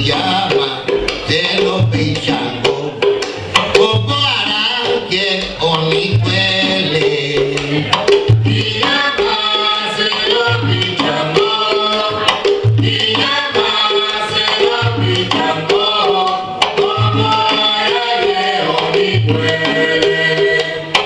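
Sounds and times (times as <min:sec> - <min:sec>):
deep low beat: 0:00.0 - 0:21.0
hand drums and percussion: 0:00.0 - 0:21.0.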